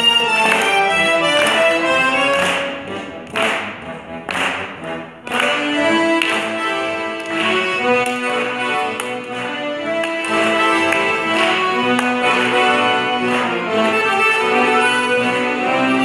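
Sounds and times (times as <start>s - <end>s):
accordion orchestra playing chords: 0.0s - 16.0s.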